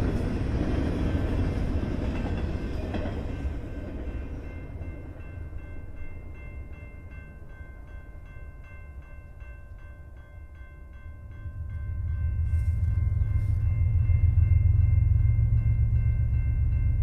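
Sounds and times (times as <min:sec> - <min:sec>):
freight train rumble: 0:00.0 - 0:17.0
crossing signal bell dinging: 0:03.3 - 0:17.0.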